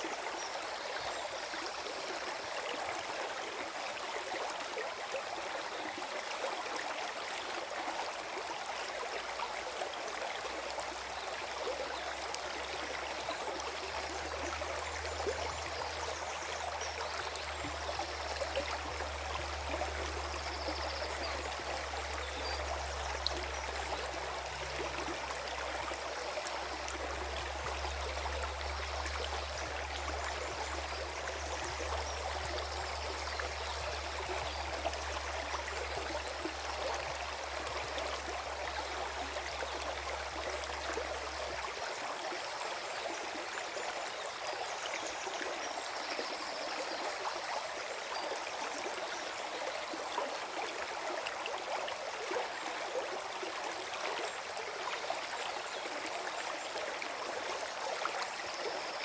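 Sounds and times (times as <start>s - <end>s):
stream gurgling: 0.0s - 59.0s.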